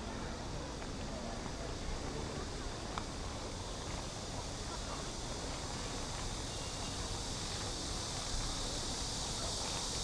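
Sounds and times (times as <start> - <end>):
continuous high hiss: 0.0 - 10.0.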